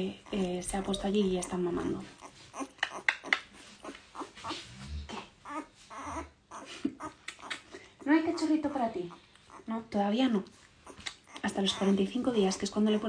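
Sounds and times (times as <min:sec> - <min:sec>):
puppies whimpering and squeaking: 0:00.0 - 0:09.9, 0:10.7 - 0:13.0.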